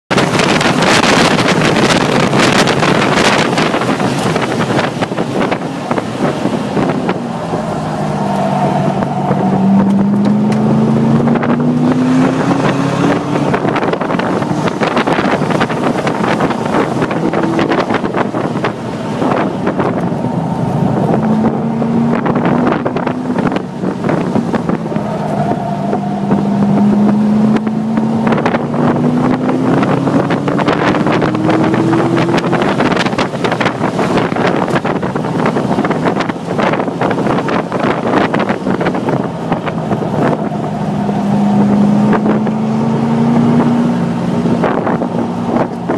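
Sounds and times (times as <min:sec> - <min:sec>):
car engine racing: 0:00.1 - 0:45.9
wind noise on microphone: 0:00.1 - 0:45.9.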